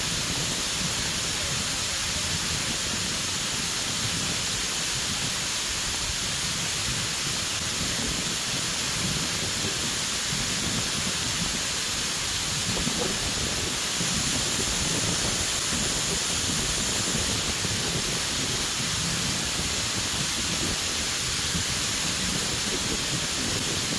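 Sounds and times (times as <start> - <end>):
waterfall rushing water: 0.0 - 23.9.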